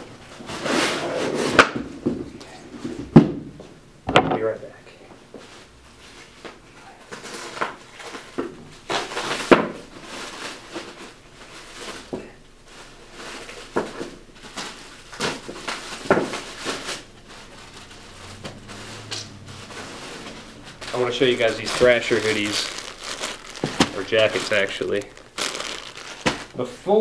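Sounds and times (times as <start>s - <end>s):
objects rustling and scraping: 0.0s - 3.8s, 5.2s - 26.8s.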